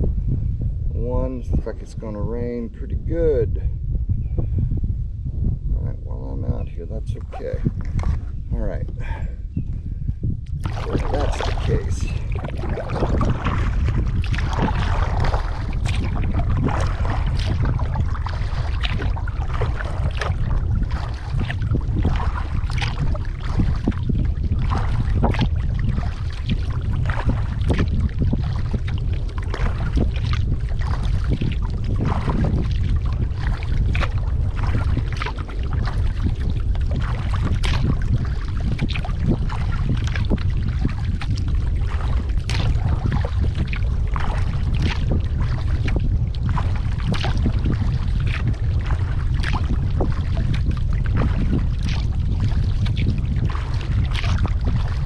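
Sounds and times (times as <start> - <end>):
wind buffeting microphone: 0.0 - 55.0
water splashing against kayak: 7.0 - 9.5, 10.4 - 55.0.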